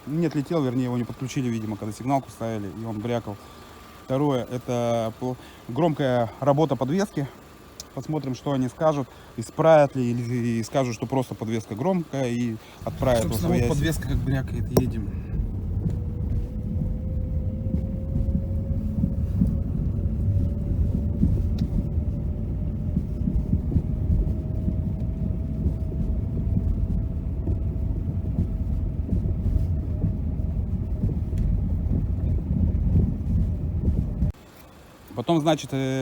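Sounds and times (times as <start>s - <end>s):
car cabin road rumble: 0.0s - 36.0s
faint whine: 0.0s - 36.0s
suspension clunks and rattles: 0.0s - 36.0s.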